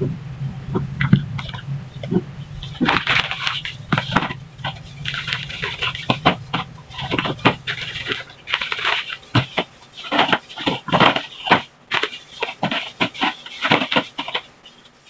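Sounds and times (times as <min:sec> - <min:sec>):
crackers tapping in plastic container: 0:01.0 - 0:14.9
plastic packet crinkling: 0:01.0 - 0:15.0.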